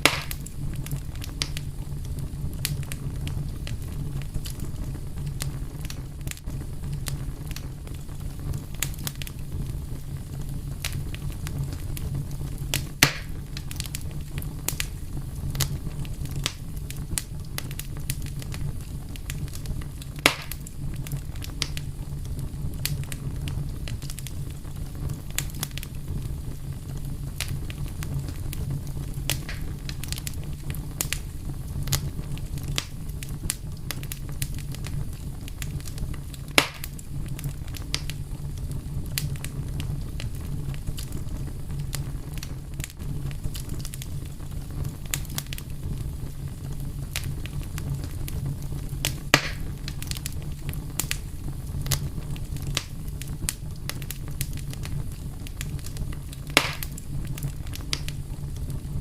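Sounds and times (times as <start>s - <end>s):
fire crackles: 0.0s - 59.0s
loud fire pops: 0.0s - 59.0s
wood fire rumble: 0.0s - 59.0s.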